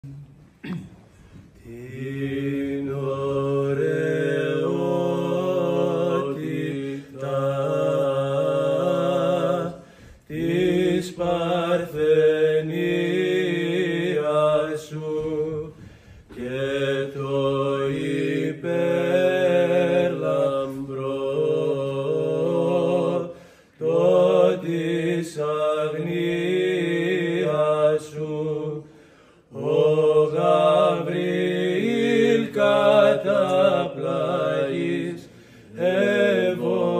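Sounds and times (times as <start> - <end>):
men chanting a hymn: 1.6 - 36.9.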